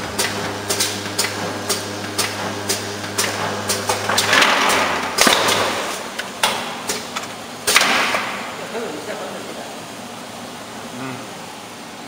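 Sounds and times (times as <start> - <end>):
motor hum: 0.0 - 12.0.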